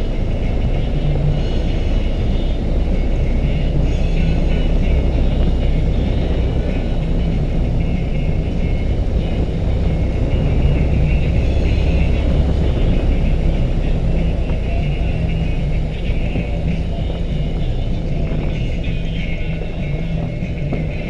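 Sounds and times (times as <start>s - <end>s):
motorcycle engine running: 0.0s - 21.0s
wind noise: 0.0s - 21.0s.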